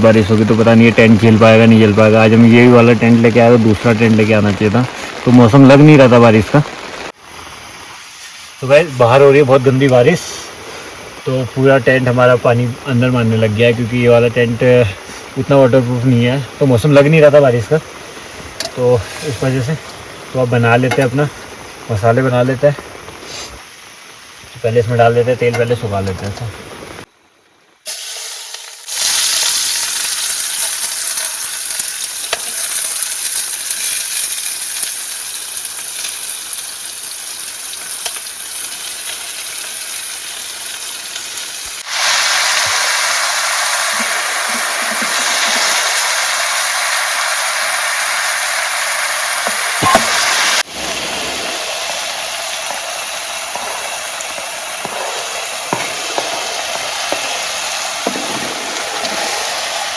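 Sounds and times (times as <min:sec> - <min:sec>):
food sizzling in hot oil: 0:00.0 - 0:27.1, 0:27.8 - 0:59.9.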